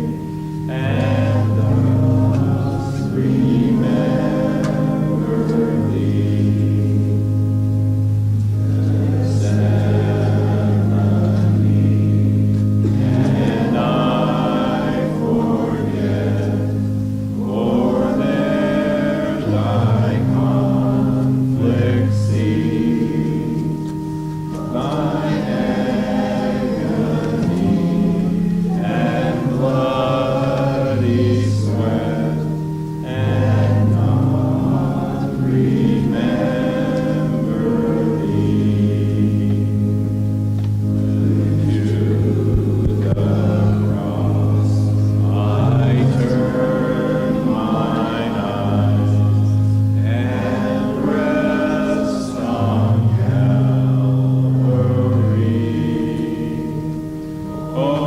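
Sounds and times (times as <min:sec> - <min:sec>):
congregation singing a hymn: 0:00.0 - 0:58.0
sustained bass accompaniment: 0:00.0 - 0:58.0.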